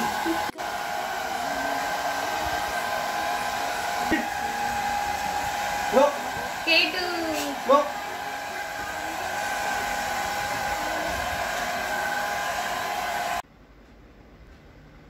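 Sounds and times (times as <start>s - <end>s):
hair dryer blowing: 0.0s - 13.4s.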